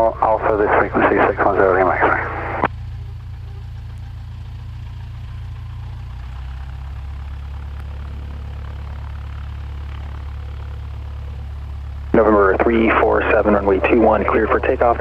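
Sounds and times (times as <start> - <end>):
aircraft piston engine idling: 0.0 - 15.0.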